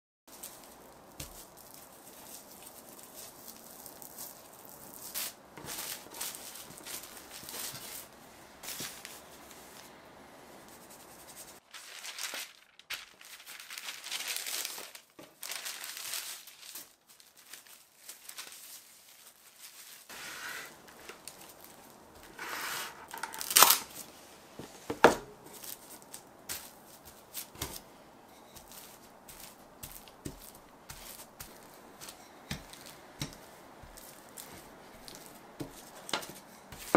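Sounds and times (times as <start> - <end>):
wrapping material crinkling and tearing: 0.3 - 9.9, 10.6 - 24.2, 25.5 - 27.8, 28.4 - 36.9.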